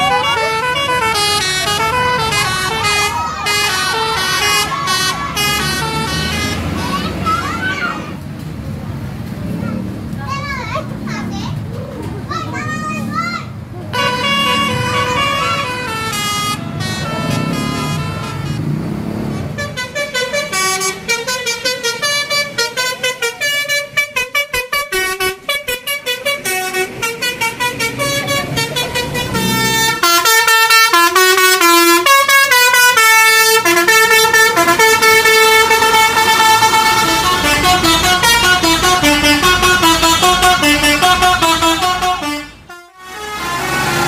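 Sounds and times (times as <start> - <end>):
musical air horn playing tune: 0.0 - 6.8, 14.0 - 18.7, 19.3 - 44.0.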